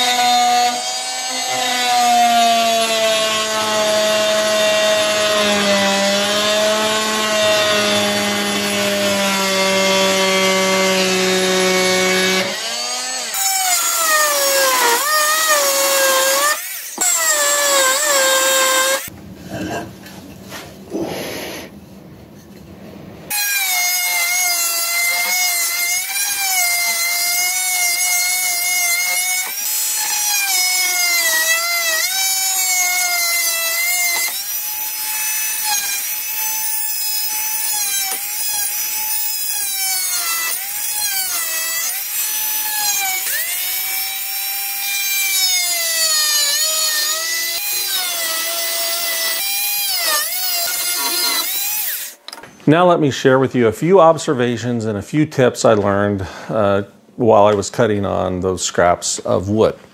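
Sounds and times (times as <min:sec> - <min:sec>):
oscillating tool cutting wood: 0:00.0 - 0:19.1, 0:23.3 - 0:52.2.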